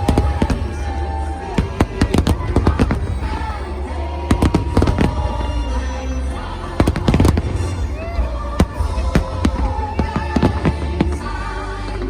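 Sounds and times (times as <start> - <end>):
fireworks bangs and crackles: 0.0 - 12.0
low rumble: 0.0 - 12.0
music playing: 0.0 - 12.0.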